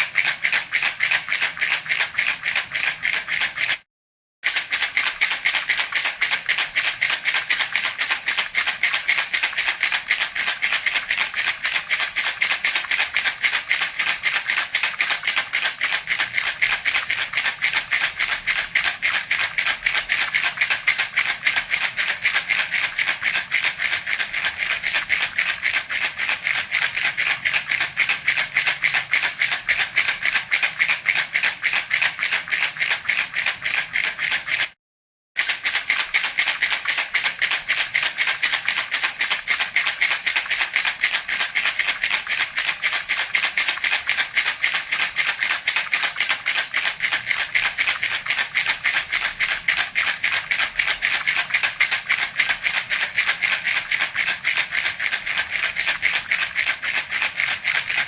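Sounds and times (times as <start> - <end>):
baby's rattle shaken: 0.0 - 3.8, 4.5 - 34.8, 35.4 - 58.0.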